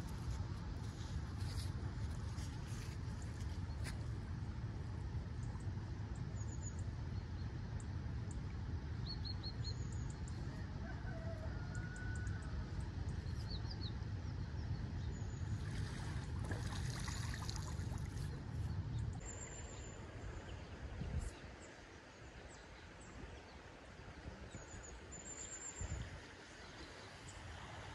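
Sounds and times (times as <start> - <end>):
steady low rumble: 0.0 - 10.8, 12.2 - 26.2.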